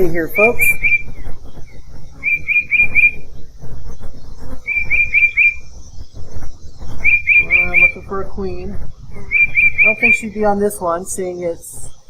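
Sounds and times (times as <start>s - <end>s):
songbird chirping: 0.0s - 12.0s
steady low rumble: 0.0s - 12.0s.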